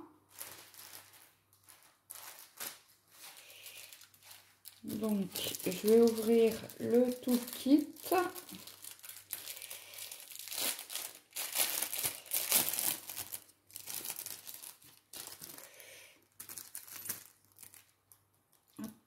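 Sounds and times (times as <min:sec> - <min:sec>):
packaging crinkling and rustling: 0:00.2 - 0:18.8
packaging tearing: 0:00.3 - 0:17.9.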